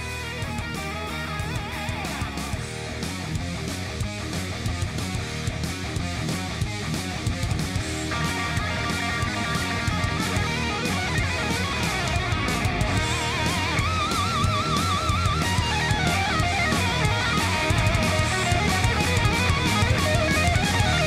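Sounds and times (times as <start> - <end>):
steady drum beat: 0.0 - 21.0
strummed electric guitar: 0.0 - 21.0.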